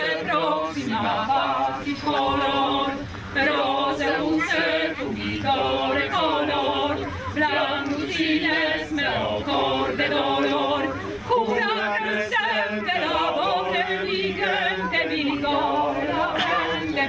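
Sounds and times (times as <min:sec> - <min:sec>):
mixed choir singing: 0:00.0 - 0:17.0.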